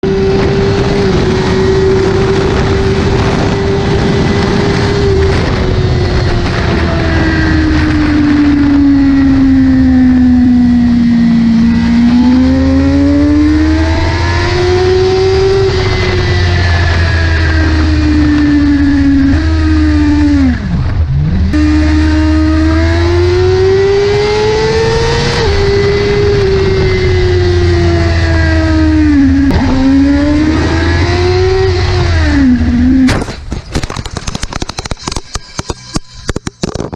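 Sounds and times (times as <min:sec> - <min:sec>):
motorcycle engine at high revs: 0:00.0 - 0:33.2
heavy wind rush: 0:00.0 - 0:36.9.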